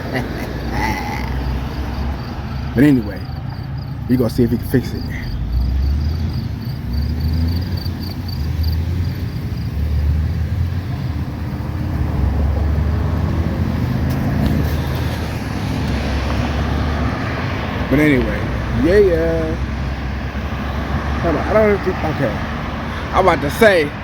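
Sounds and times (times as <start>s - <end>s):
cars going by: 0.0s - 24.0s.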